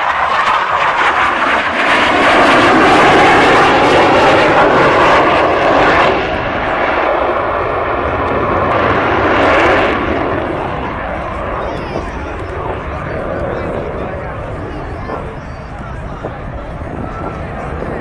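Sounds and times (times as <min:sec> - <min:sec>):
loud fighter jet noise: 0:00.0 - 0:18.0.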